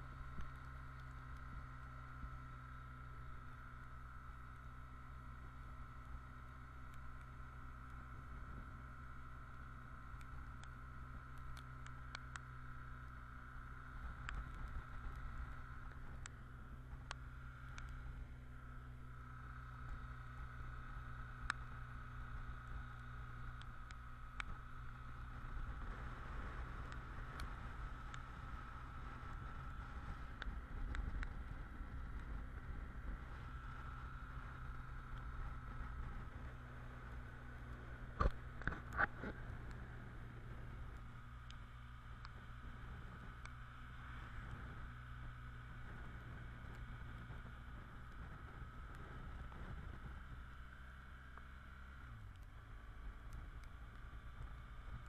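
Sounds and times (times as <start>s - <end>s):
motorcycle engine droning: 0.0s - 55.0s.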